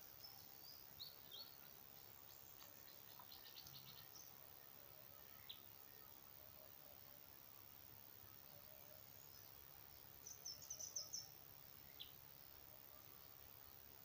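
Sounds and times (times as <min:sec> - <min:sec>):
faint bird chirps: 0:00.0 - 0:07.4, 0:08.2 - 0:13.9
low steady hiss: 0:00.0 - 0:14.0.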